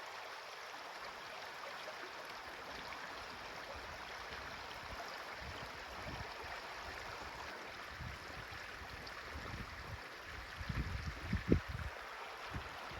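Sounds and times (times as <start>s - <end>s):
running water rushing: 0.0s - 12.9s.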